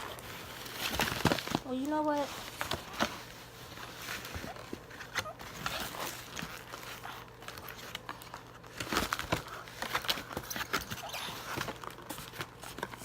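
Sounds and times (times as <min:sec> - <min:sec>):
cardboard and paper crinkling: 0:00.0 - 0:13.0.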